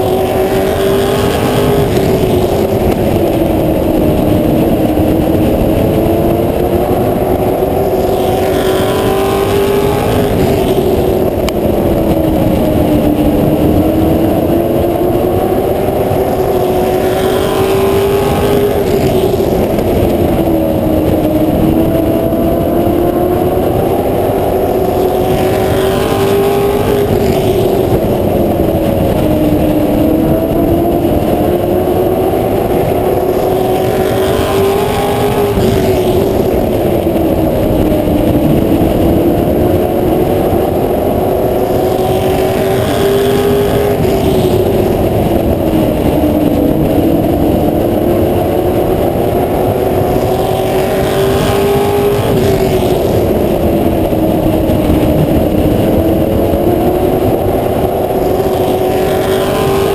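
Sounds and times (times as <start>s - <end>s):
race car engine: 0.0s - 59.9s
wind rushing over microphone: 0.0s - 59.9s.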